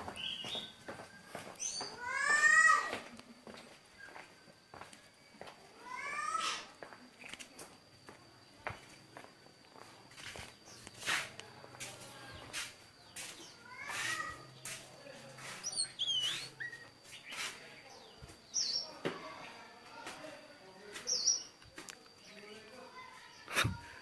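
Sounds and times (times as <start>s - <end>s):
small birds chirping: 0.0s - 7.7s, 8.4s - 19.5s, 20.7s - 24.0s.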